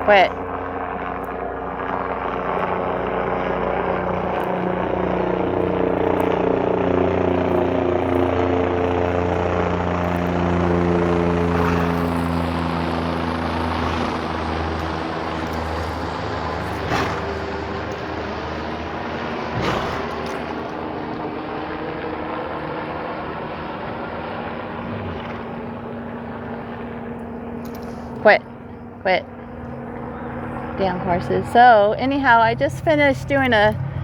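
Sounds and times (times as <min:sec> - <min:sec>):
helicopter rotor and engine drone: 0:00.0 - 0:34.0.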